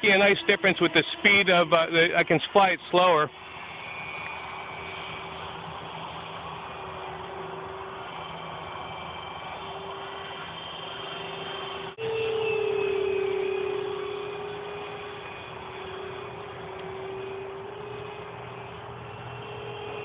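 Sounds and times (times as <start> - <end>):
electric ducted fans whining: 0.0 - 20.0.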